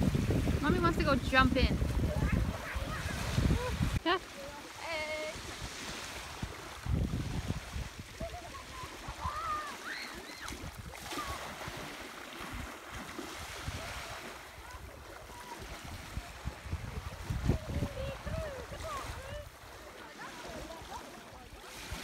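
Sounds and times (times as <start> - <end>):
wind buffeting microphone: 0.0 - 4.2, 4.8 - 19.8
small waves washing onto shore: 0.0 - 22.0.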